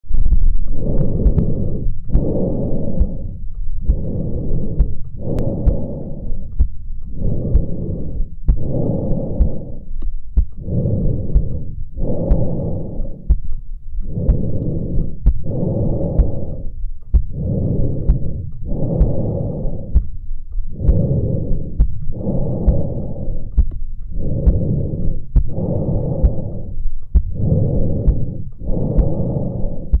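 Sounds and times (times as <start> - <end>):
breath airflow rushes: 0.0 - 30.0.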